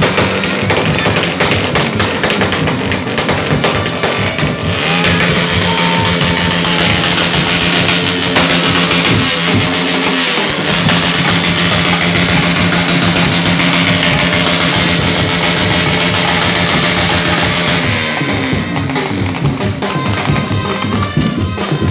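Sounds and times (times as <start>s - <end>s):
guitar and drums music: 0.0s - 21.9s.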